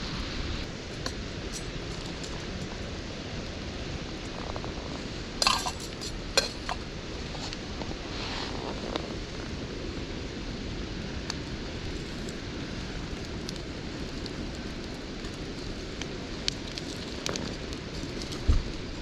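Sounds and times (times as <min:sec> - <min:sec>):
campfire rumble: 0:00.0 - 0:19.0
fire crackling and popping: 0:00.2 - 0:19.0.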